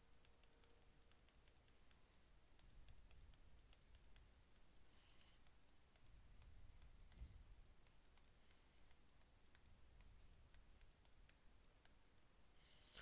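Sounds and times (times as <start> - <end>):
stylus tapping on pen tablet: 0.0 - 12.3.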